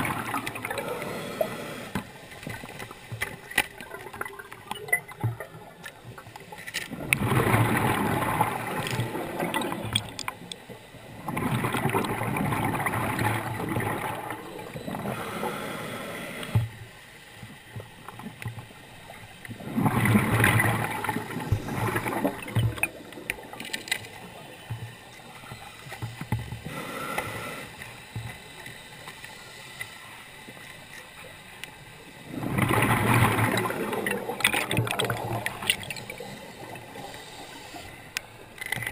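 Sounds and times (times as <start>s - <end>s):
underwater noise: 0.0s - 38.9s.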